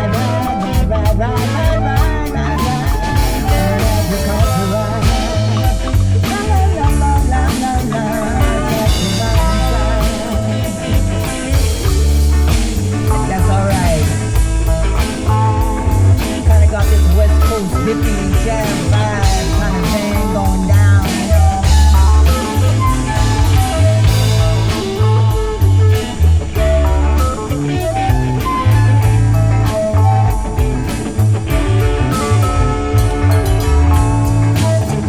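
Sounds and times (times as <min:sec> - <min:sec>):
instrumental rock music: 0:00.0 - 0:35.0
lead guitar bending notes: 0:00.0 - 0:35.0.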